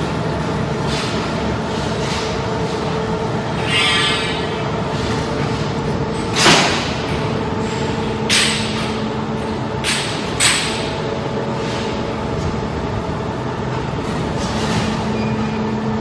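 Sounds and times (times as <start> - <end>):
factory machine hum: 0.0 - 16.0.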